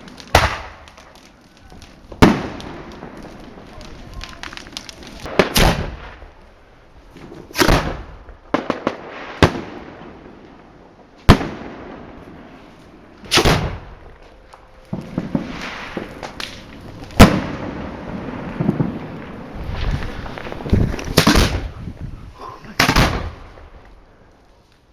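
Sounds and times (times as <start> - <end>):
fireworks bangs and booms: 0.0 - 24.1.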